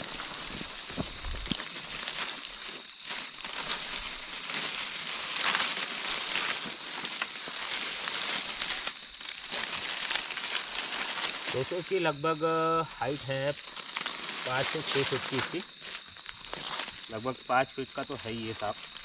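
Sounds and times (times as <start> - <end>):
dry leaves and grass crackling: 0.0 - 19.0.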